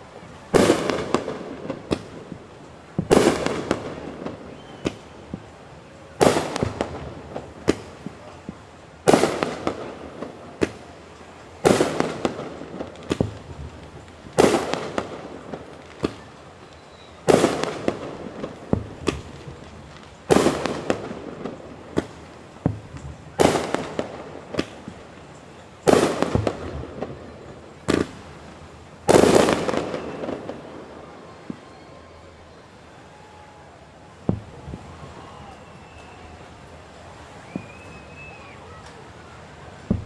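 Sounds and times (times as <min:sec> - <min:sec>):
fireworks booming: 0:00.0 - 0:32.6, 0:33.2 - 0:40.0
fireworks cracks: 0:00.0 - 0:32.6, 0:33.2 - 0:40.0.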